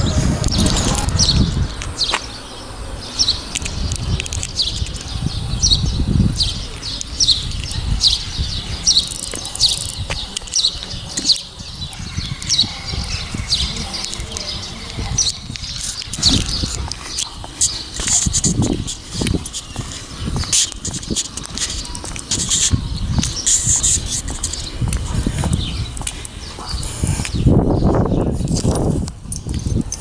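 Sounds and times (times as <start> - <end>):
small bird chirping: 0.5 - 28.8.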